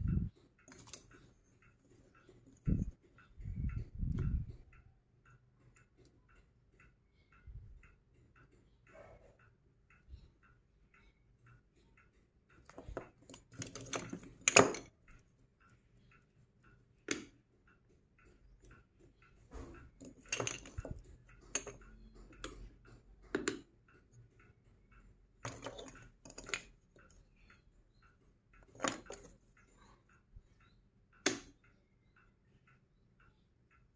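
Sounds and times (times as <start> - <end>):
faint steady ticking: 0.0 - 33.9
magnetic toy pieces clicking: 0.1 - 7.0, 12.5 - 33.9.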